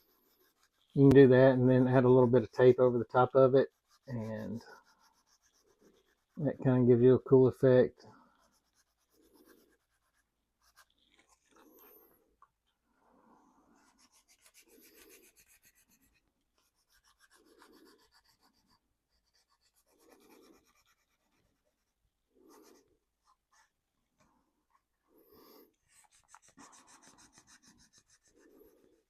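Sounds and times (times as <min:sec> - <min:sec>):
scratchy rubbing on plastic: 0:00.0 - 0:12.2, 0:13.6 - 0:23.8, 0:24.7 - 0:29.0.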